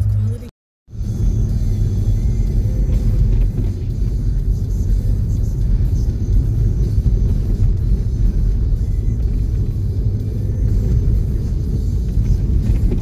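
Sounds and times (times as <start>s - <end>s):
vehicle engine and tyres on snow: 0.0s - 13.0s.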